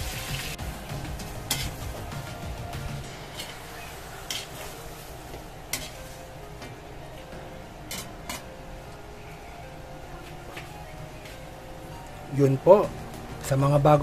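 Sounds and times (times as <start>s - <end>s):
low sizzle: 0.0s - 14.0s.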